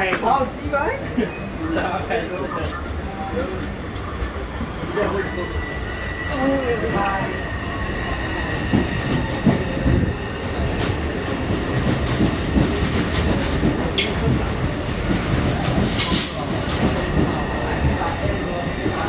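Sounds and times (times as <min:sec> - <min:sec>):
train wheels rumbling and clicking: 0:01.7 - 0:19.0.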